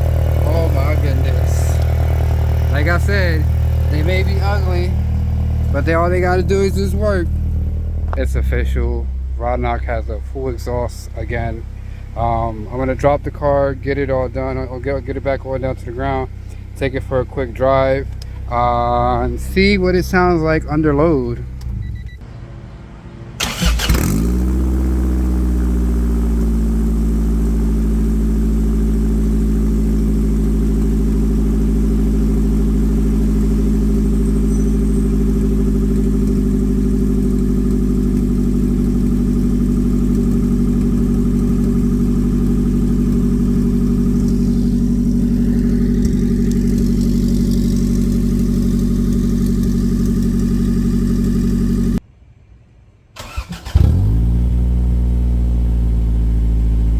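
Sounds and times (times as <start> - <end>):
car engine starting and idling: 0.0 - 52.1, 53.1 - 56.9.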